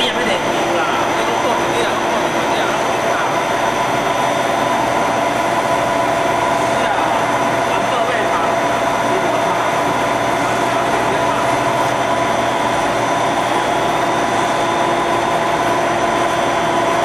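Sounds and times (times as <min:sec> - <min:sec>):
machine drone with whining tones: 0:00.0 - 0:17.0.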